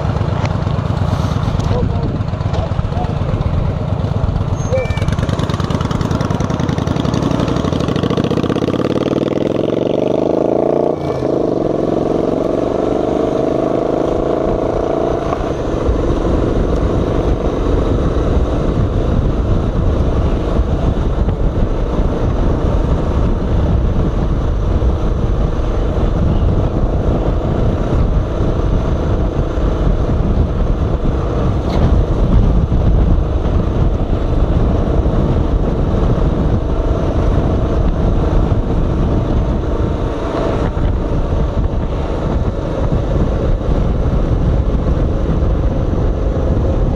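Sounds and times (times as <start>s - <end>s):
motorcycle engine revving: 0.0s - 46.9s
wind rumbling on microphone: 0.0s - 46.9s.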